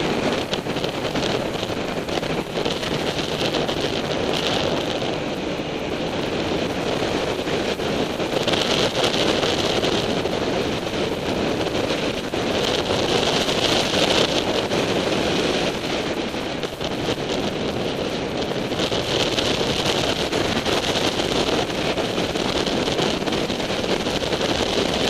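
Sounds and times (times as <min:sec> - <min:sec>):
motorcycle engine running: 0:00.0 - 0:25.0
road noise: 0:00.0 - 0:25.0
wind rushing over microphone: 0:00.0 - 0:25.0.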